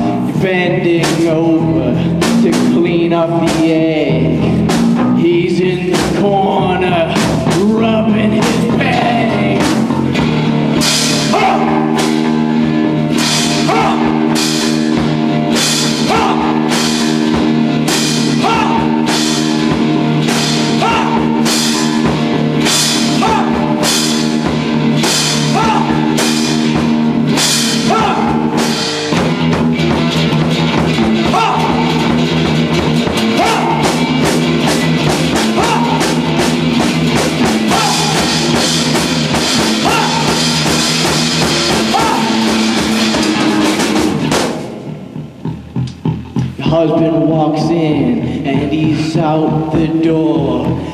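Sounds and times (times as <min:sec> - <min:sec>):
distorted electric guitar chords: 0:00.0 - 0:50.9
drum kit playing: 0:00.0 - 0:50.9.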